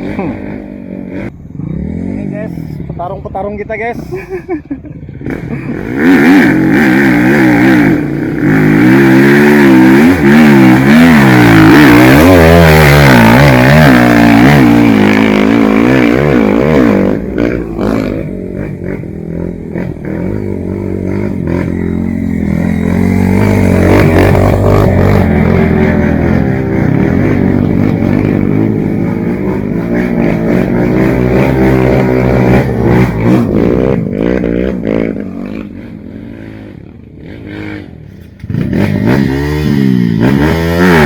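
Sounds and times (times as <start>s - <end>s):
motorcycle engine revving: 0.0s - 3.5s, 5.1s - 41.0s.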